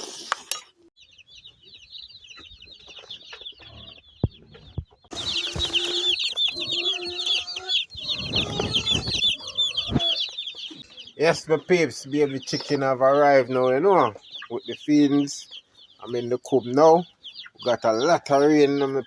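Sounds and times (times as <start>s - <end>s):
chicks peeping: 1.0s - 19.0s.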